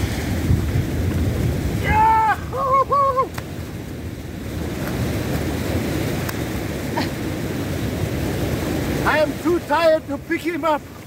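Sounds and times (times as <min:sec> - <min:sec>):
ocean surf on sandy beach: 0:00.0 - 0:11.0
wind buffeting microphone: 0:00.0 - 0:11.0.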